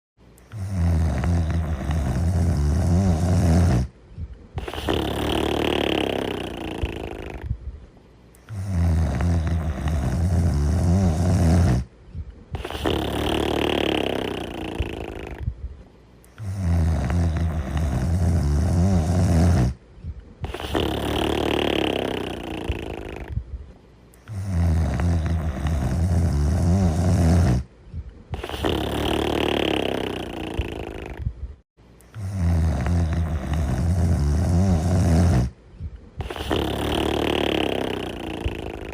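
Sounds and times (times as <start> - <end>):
loud rattling snore: 0.5 - 3.9, 4.6 - 7.5, 8.4 - 11.9, 12.5 - 15.5, 16.3 - 19.8, 20.4 - 23.4, 24.2 - 27.7, 28.3 - 31.3, 32.1 - 35.6, 36.2 - 38.9.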